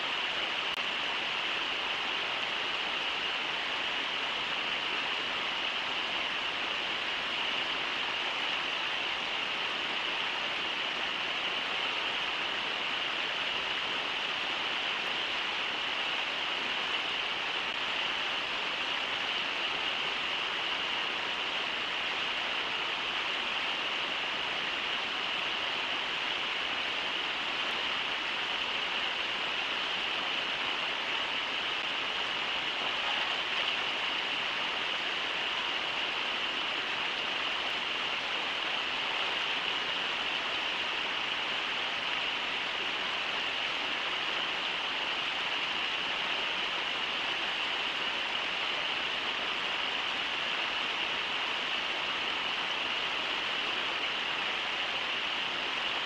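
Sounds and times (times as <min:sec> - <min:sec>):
river water rushing over riffles: 0:00.0 - 0:56.0.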